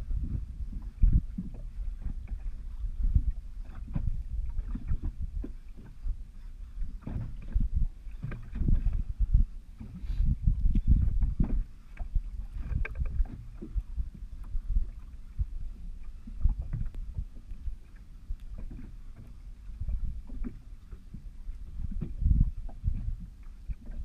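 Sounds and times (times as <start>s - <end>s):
water slapping against boat hull: 0.0s - 24.0s
wind rumbling on microphone: 0.0s - 24.0s.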